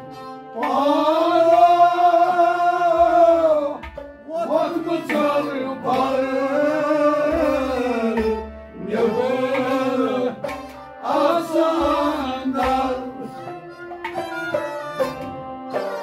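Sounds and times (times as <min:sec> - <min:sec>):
person singing: 0:00.0 - 0:15.5
tabla: 0:00.0 - 0:16.0.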